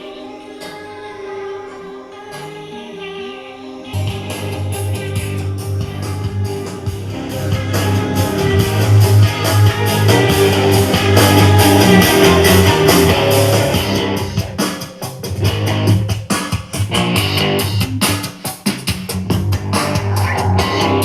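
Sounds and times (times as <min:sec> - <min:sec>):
rock song through a speaker: 0:00.0 - 0:21.0.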